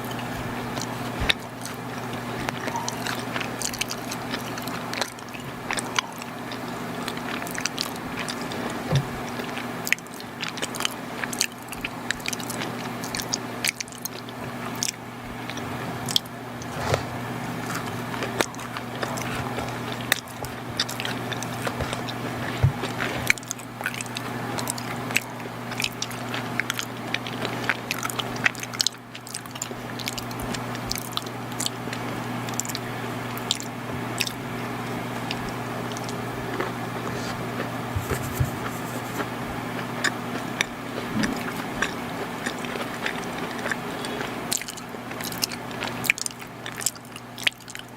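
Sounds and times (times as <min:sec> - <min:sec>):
chewing soft cookies: 0:00.0 - 0:47.9
steady low hum: 0:00.0 - 0:47.9
sticky mouth clicks: 0:00.8 - 0:16.3, 0:17.6 - 0:34.4, 0:38.6 - 0:47.9.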